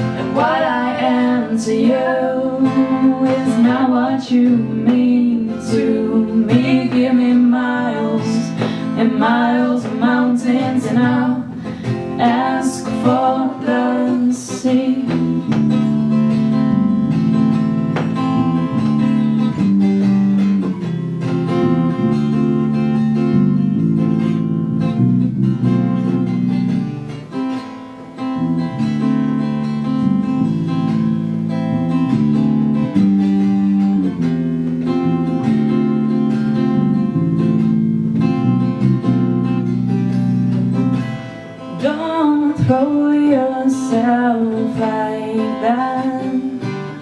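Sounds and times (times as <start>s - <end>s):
acoustic guitar chords: 0.0s - 47.0s.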